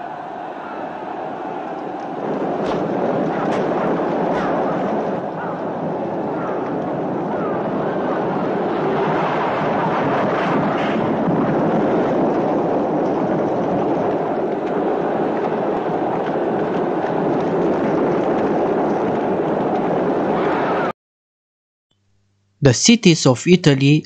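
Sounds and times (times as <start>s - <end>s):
galloping horses and chariot wheels: 0.0s - 20.9s.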